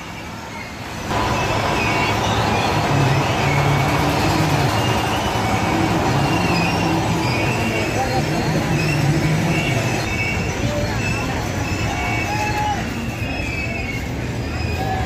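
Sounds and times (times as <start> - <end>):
faint high-pitched squeals: 0.0 - 15.0
fairground ride machinery: 0.0 - 15.0.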